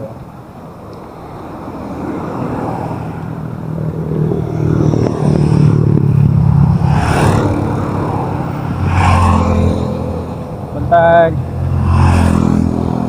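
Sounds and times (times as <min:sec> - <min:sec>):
traffic rushing noise: 0:00.0 - 0:13.0.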